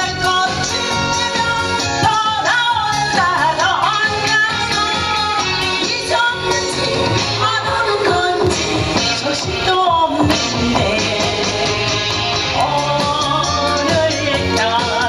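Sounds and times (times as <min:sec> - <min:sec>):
instrumental accompaniment with beat: 0:00.0 - 0:15.0
woman singing into a microphone: 0:00.0 - 0:15.0.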